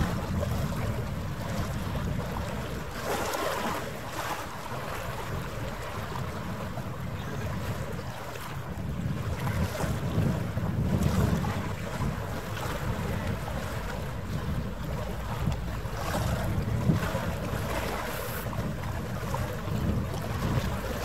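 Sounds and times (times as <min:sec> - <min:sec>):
water lapping: 0:00.0 - 0:21.0
wind buffeting microphone: 0:00.0 - 0:21.0.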